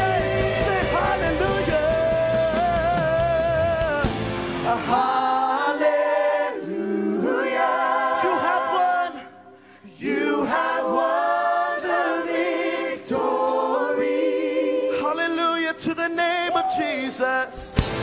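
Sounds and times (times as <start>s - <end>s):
choir singing: 0.0s - 15.8s.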